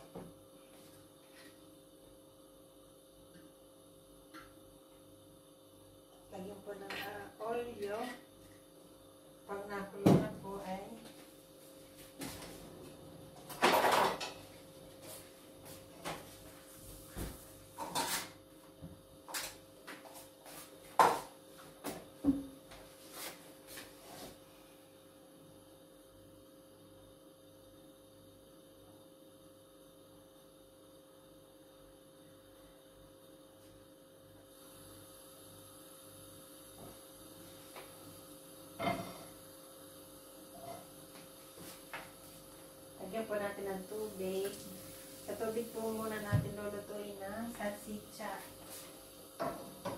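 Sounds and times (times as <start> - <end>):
steady electrical hum: 0.0 - 49.9.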